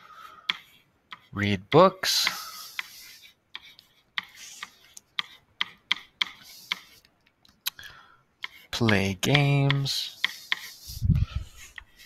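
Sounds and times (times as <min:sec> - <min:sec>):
stylus tapping and scratching: 0:00.4 - 0:07.8, 0:08.4 - 0:12.0.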